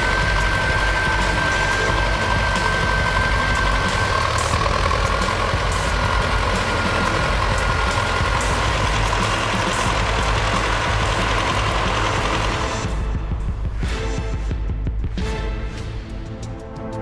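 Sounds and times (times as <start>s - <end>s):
truck engine running: 0.0s - 14.4s.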